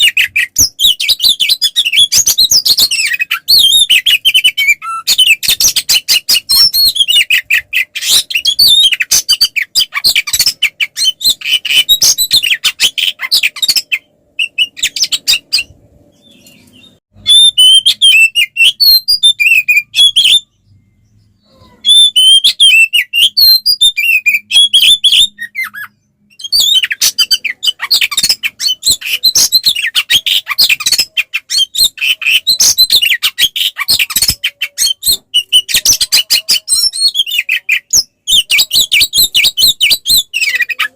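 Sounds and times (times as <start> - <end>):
bird singing rapid chirps: 0.0 - 40.9.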